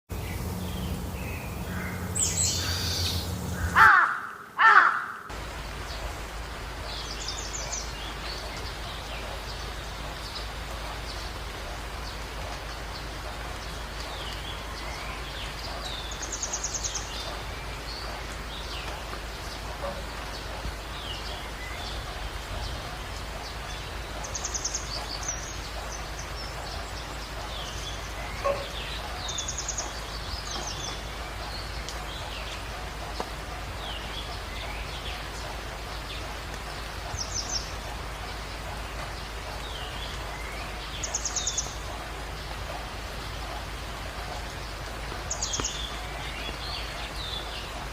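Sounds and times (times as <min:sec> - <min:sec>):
birds calling and chirping: 0:00.1 - 0:47.9
outdoor background hiss: 0:00.1 - 0:47.9.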